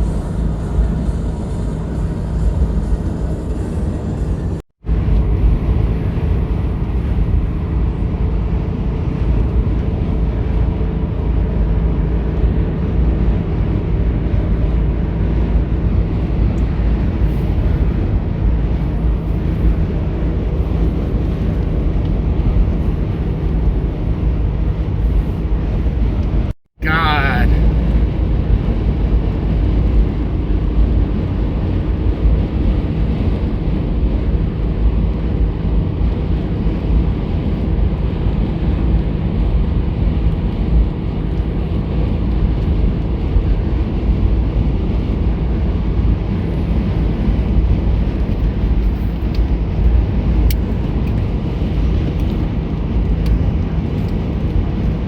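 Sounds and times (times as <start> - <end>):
faint engine hum: 0.0 - 55.0
vehicle rumble: 0.0 - 55.0.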